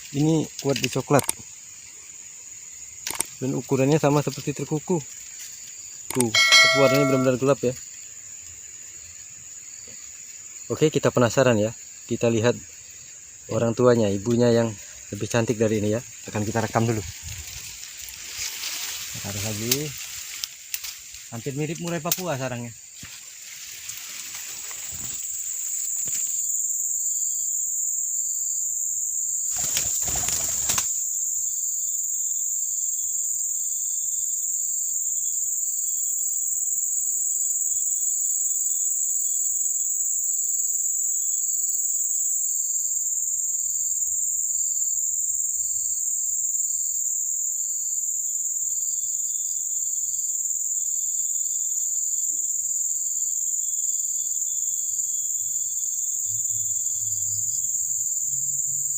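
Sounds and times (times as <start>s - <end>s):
insects buzzing and chirping: 0.0s - 58.9s
rustle: 0.0s - 58.9s.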